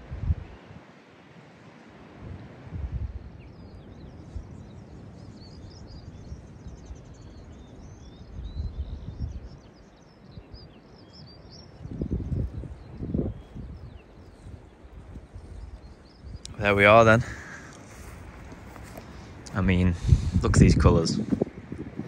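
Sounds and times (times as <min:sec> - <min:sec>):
wind buffeting microphone: 0:00.0 - 0:00.8, 0:02.0 - 0:22.0
small birds twittering: 0:02.9 - 0:22.0.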